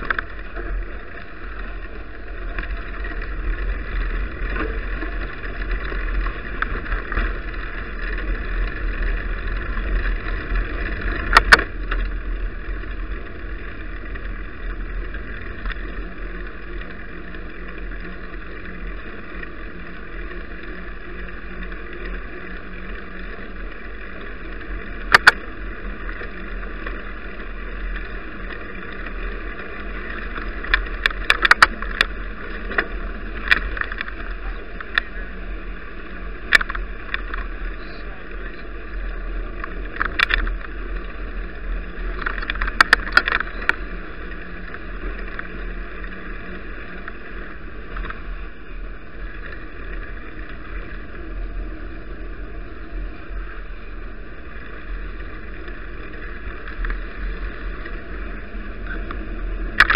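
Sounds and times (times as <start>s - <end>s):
bicycle rolling noise: 0.0s - 59.9s
low rumble: 0.0s - 59.9s.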